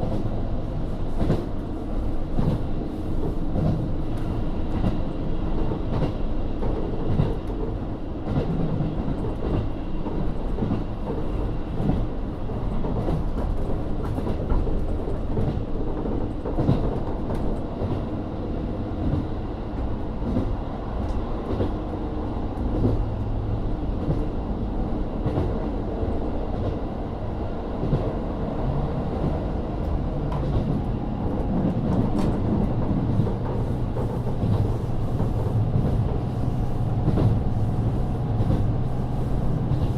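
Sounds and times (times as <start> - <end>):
diesel railcar rumble: 0.0 - 39.9.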